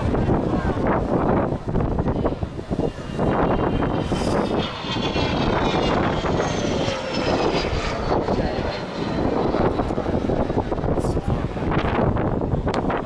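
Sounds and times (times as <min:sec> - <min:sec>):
jet aircraft flying past: 0:00.0 - 0:13.0.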